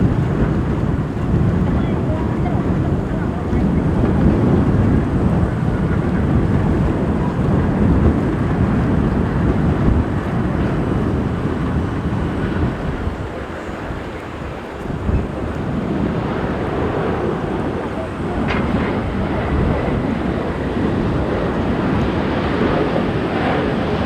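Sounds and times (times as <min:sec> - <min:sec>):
jet engines roaring: 0:00.0 - 0:24.0
wind buffeting microphone: 0:00.0 - 0:24.0.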